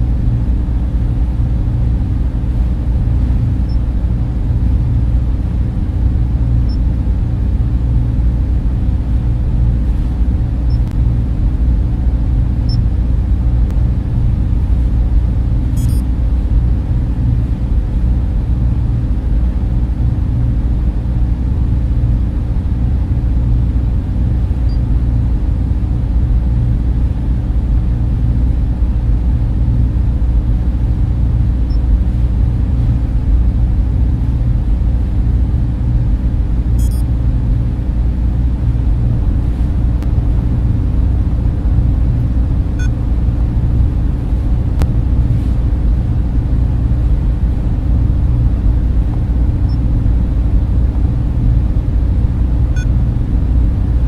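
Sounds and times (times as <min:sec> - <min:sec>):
cooling fans running: 0:00.0 - 0:54.0.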